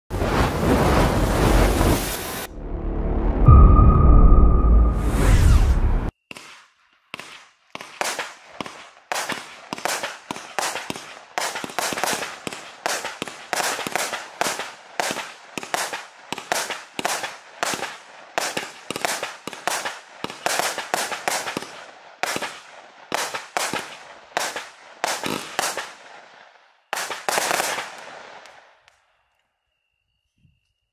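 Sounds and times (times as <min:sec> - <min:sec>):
fireworks bangs: 0:00.1 - 0:02.5, 0:05.0 - 0:26.0, 0:26.9 - 0:28.6.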